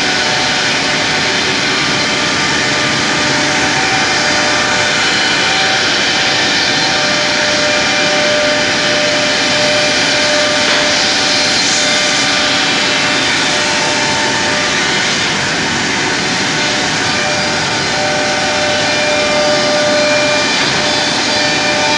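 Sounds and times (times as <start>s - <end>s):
machine rushing noise: 0.0s - 21.9s.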